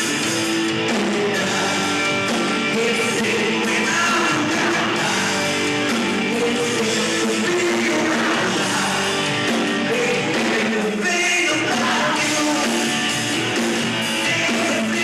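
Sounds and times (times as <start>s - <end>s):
electric guitar: 0.0s - 15.0s
rock band playing live: 0.0s - 15.0s.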